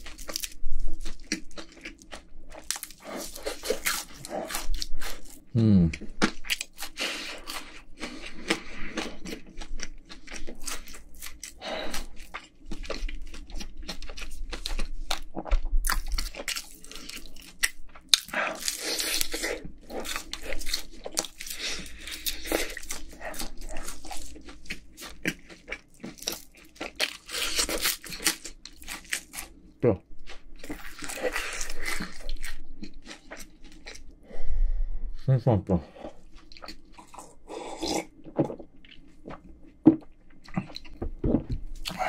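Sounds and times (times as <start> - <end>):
crunching and chewing: 0.0 - 34.2, 35.9 - 42.0.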